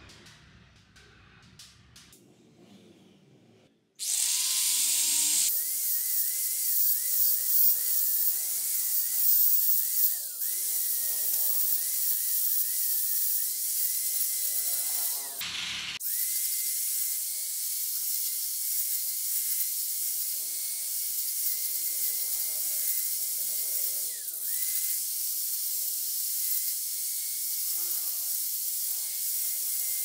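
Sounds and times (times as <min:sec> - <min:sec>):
angle grinder grinding metal: 0:04.0 - 0:30.0.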